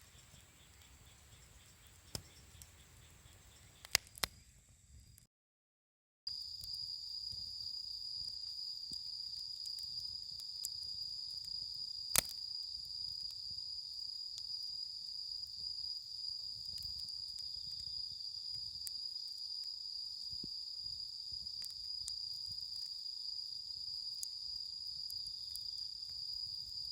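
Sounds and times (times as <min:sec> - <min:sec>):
campfire crackles: 0:00.0 - 0:04.4, 0:06.4 - 0:26.9
insects droning: 0:00.0 - 0:05.2, 0:06.3 - 0:26.9.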